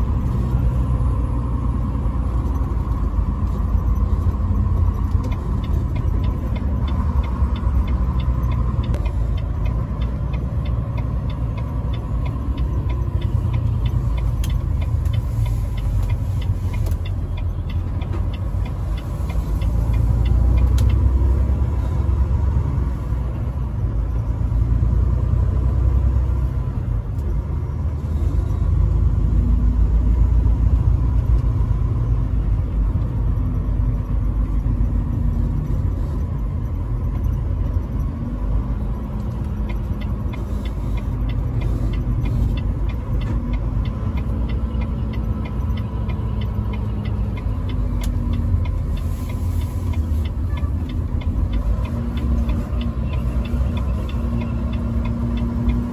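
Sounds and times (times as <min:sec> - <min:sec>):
truck engine and road rumble: 0:00.0 - 0:55.9
light fast ticking: 0:00.2 - 0:24.7, 0:26.4 - 0:55.9.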